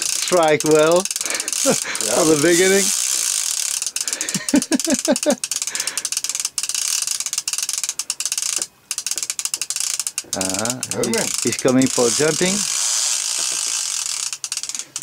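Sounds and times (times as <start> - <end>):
fishing reel clicking rapidly: 0.0 - 15.0.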